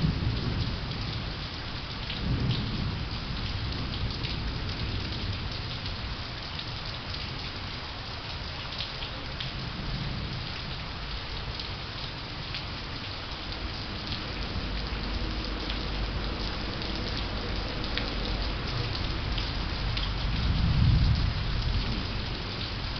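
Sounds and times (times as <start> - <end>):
rain falling: 0.0 - 22.9.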